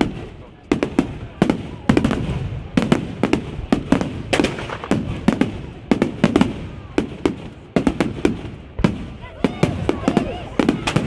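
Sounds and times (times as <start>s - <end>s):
fireworks bangs with echo: 0.0s - 11.0s.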